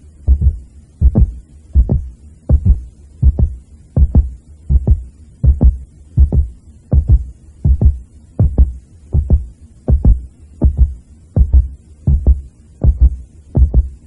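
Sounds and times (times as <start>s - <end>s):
heartbeat thumps: 0.2s - 14.0s.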